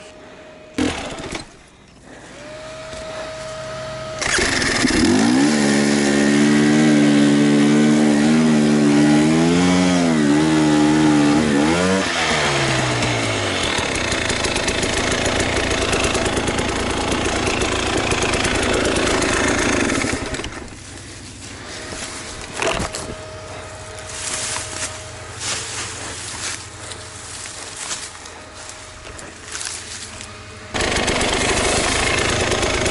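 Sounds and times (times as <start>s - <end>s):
motorcycle engine revving: 2.3s - 32.9s.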